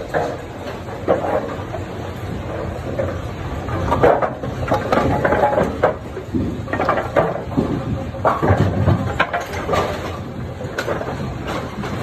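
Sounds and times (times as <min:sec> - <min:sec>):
machinery humming: 0:00.0 - 0:12.0
metallic knocks and clatter: 0:00.0 - 0:12.0.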